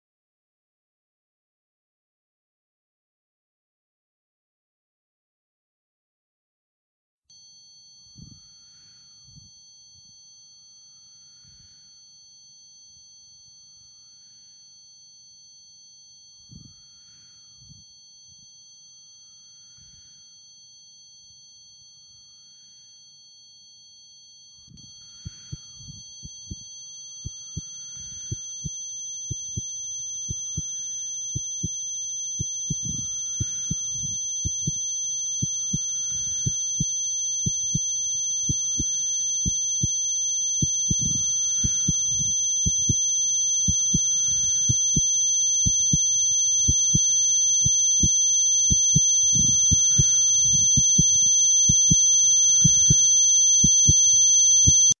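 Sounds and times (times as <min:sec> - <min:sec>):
high-pitched ringing tones: 0:07.3 - 0:55.0.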